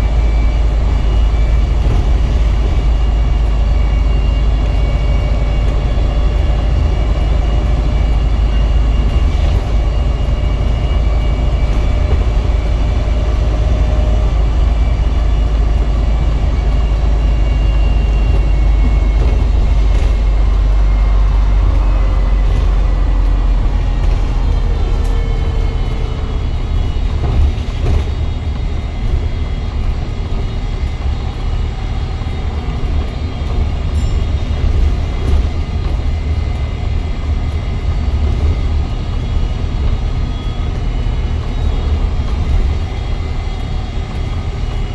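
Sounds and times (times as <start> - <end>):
bus engine low rumble: 0.0 - 44.9.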